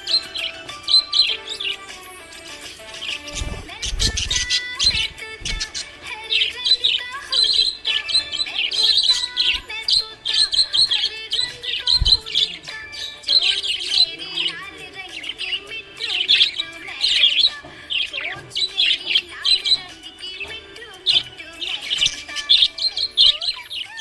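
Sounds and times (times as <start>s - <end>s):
parrots chirping and chattering: 0.0s - 24.0s.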